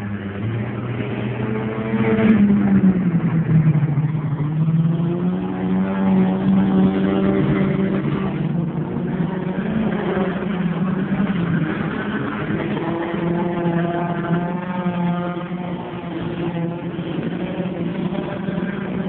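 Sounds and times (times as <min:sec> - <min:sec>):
race car engines running hard: 0:00.0 - 0:19.0.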